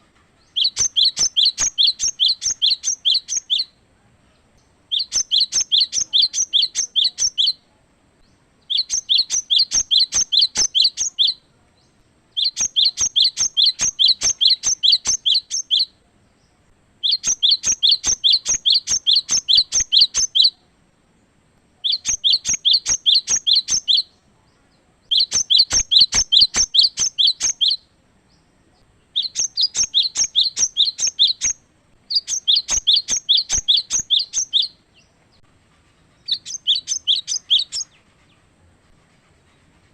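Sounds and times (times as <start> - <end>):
bird singing: 0.4 - 35.5, 36.1 - 38.5.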